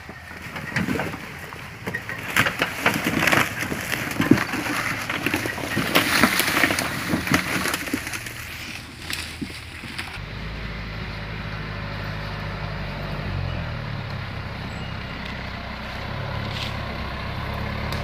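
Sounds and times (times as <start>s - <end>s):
branches scraping vehicle body: 0.0s - 10.5s, 13.3s - 18.0s
leaves and twigs crunching under tyres: 0.0s - 18.0s
vehicle crawling over rough ground: 0.0s - 18.0s.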